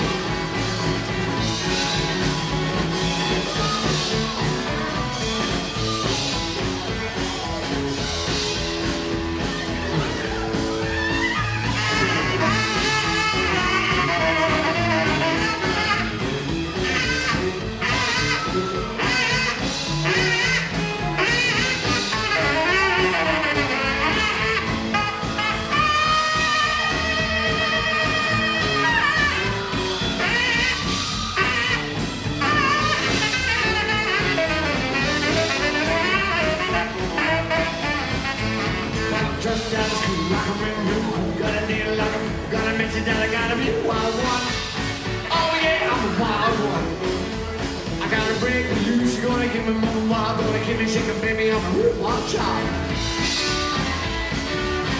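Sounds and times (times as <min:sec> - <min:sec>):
saxophone melody: 0:00.0 - 0:42.6, 0:43.2 - 0:49.7, 0:51.4 - 0:54.9
drums: 0:00.0 - 0:54.9
electric guitar: 0:00.0 - 0:54.9
upright bass: 0:00.0 - 0:54.9.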